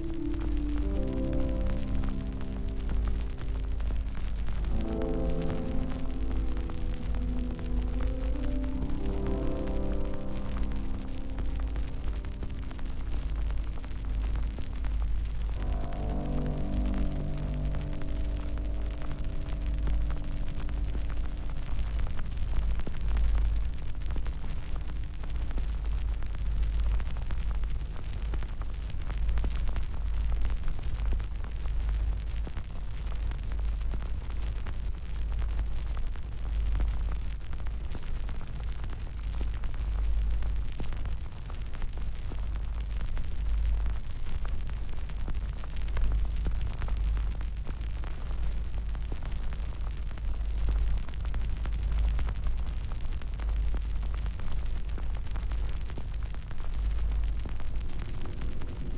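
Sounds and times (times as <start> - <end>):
large fire crackling and popping: 0.0 - 58.9.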